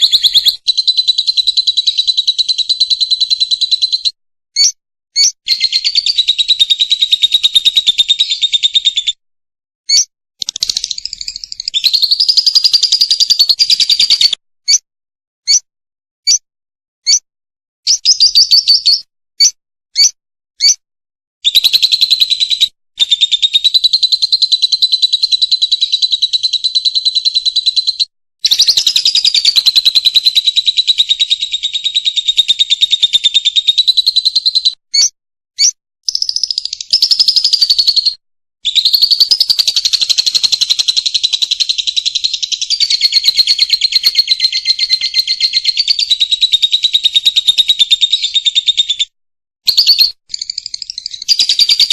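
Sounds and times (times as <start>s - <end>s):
bird chattering in rapid trills: 0.0s - 9.2s, 9.9s - 14.8s, 15.5s - 15.7s, 17.0s - 17.2s, 17.9s - 20.8s, 21.4s - 49.1s, 49.7s - 51.9s
short bird chirps: 0.0s - 9.2s, 9.8s - 14.8s, 15.4s - 16.4s, 17.0s - 17.2s, 17.9s - 20.8s, 21.4s - 49.1s, 49.7s - 51.9s.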